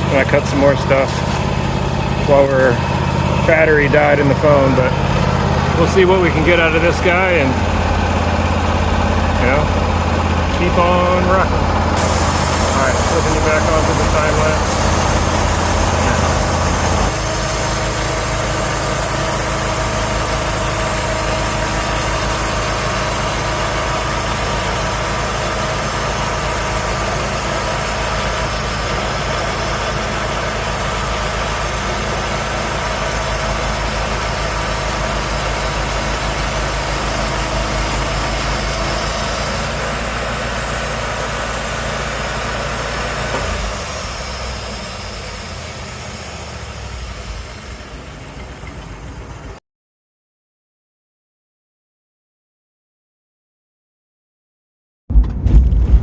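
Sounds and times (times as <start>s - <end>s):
engine running: 0.0s - 49.6s.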